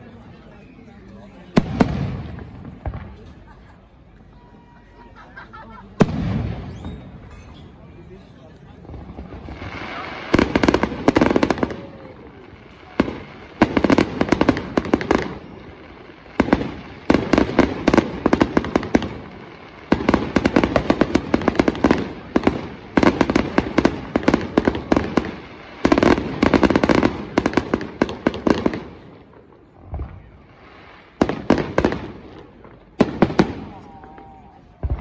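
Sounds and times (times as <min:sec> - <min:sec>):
fireworks bangs and crackles: 0:00.0 - 0:04.8, 0:05.7 - 0:35.0.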